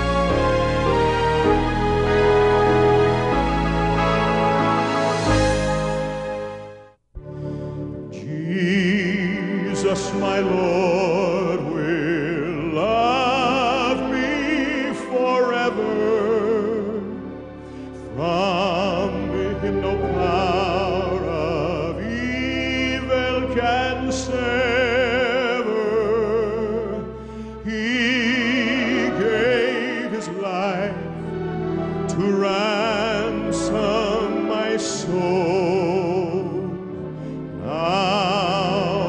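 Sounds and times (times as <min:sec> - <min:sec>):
sustained musical accompaniment: 0:00.0 - 0:39.0.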